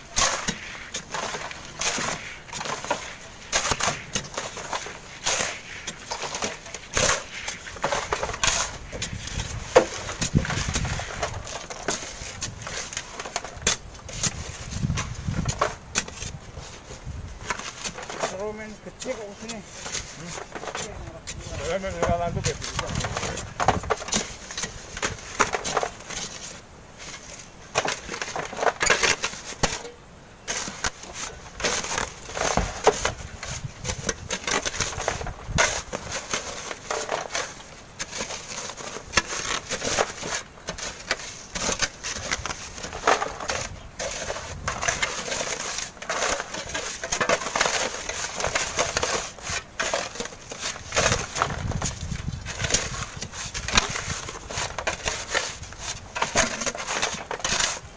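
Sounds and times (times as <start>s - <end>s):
shovels scraping gravel: 0.0s - 57.9s.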